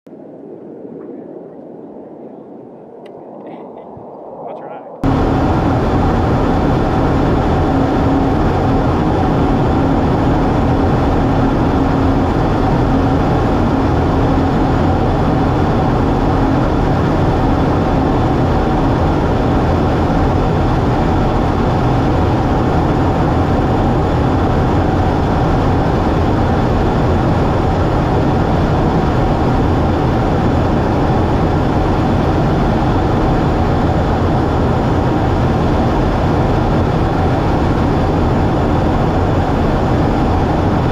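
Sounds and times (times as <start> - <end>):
faint steady hum: 0.1 - 40.9
jet engine and airflow rush: 0.1 - 40.9.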